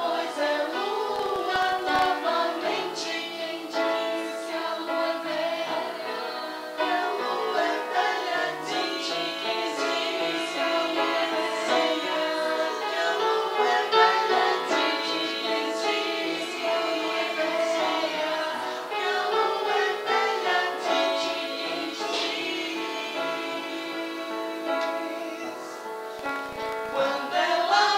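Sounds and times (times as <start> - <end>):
choir singing: 0.0 - 27.9.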